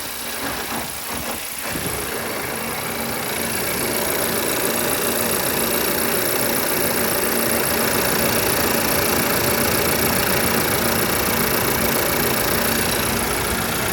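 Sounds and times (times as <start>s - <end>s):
car engine idling: 1.5s - 13.9s.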